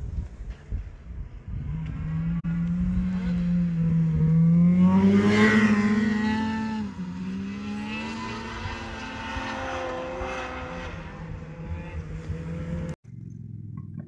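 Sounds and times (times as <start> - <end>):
snowmobile engine revving: 1.6 - 13.0.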